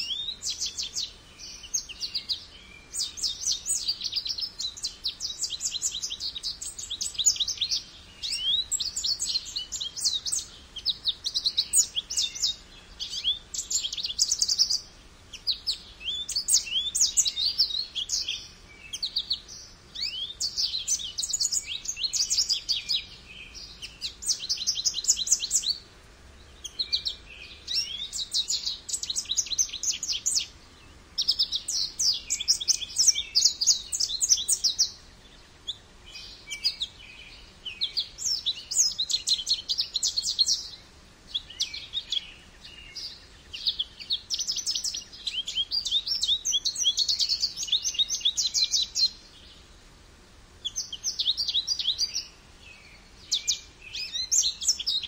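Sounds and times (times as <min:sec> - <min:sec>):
goldfinch singing: 0:00.0 - 0:25.8, 0:26.4 - 0:49.5, 0:50.6 - 0:55.0.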